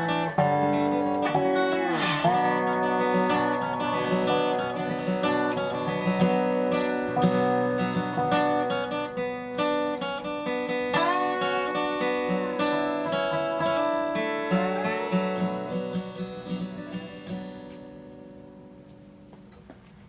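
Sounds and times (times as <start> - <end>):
resonator guitar plucked with slides: 0.0 - 17.9.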